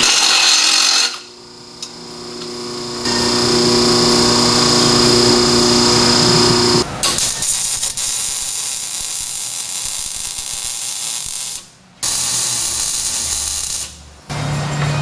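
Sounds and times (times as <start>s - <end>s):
welding arc crackling and hissing: 0.0s - 14.1s.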